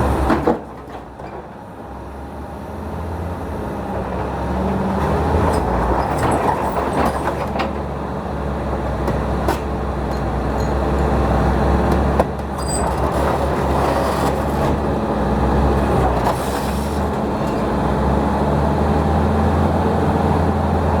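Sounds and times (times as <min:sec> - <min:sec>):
diesel machinery engines running: 0:00.0 - 0:21.0.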